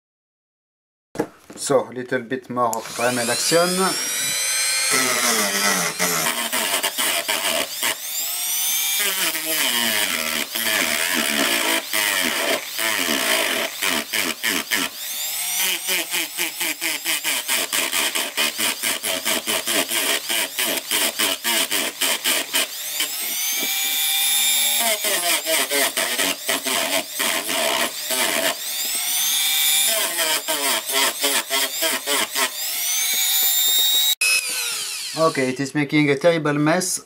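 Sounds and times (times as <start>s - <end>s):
rotary tool grinding metal: 2.7s - 35.6s.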